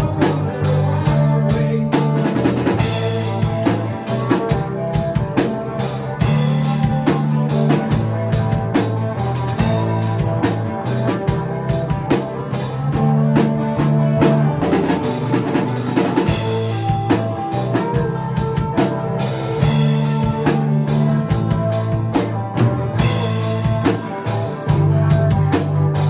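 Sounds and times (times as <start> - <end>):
country-rock band playing: 0.0 - 26.0
drum kit beat: 0.0 - 26.0.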